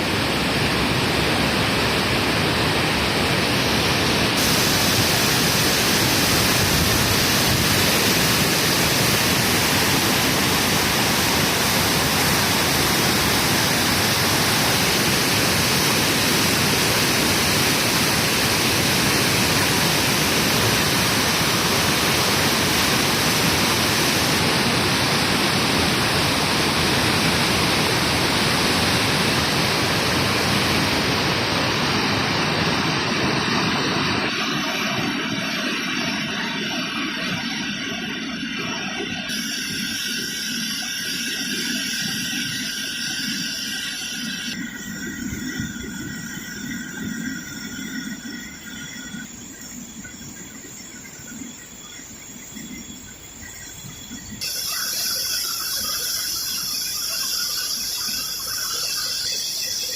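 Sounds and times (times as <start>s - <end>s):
floodwater rushing roar: 0.0s - 51.7s.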